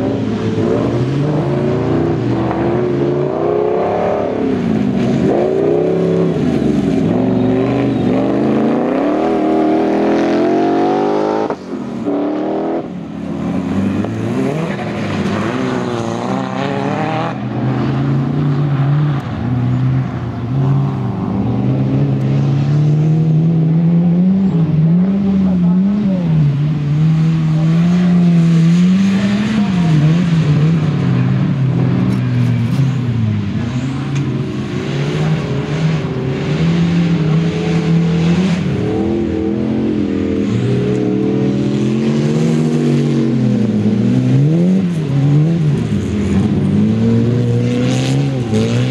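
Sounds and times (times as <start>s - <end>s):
race car engines revving: 0.0s - 48.9s.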